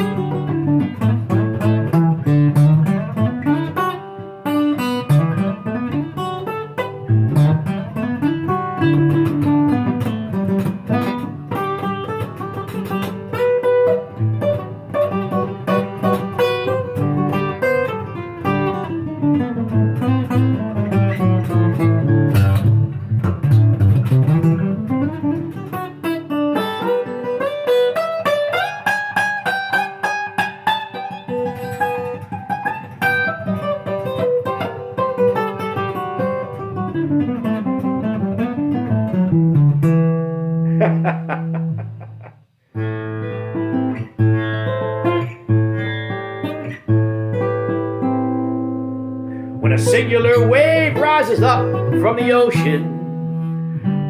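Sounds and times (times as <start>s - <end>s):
solo acoustic guitar: 0.0s - 54.0s.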